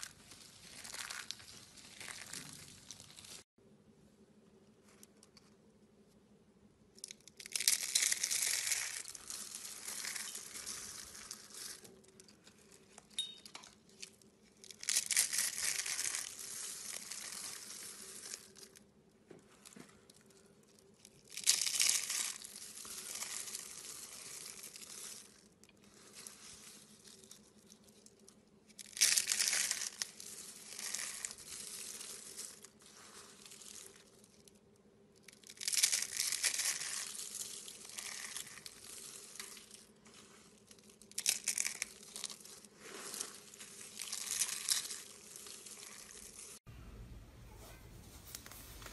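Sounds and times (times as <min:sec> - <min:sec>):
soap curls crunching: 0:00.0 - 0:03.5, 0:07.0 - 0:13.2, 0:13.8 - 0:46.7.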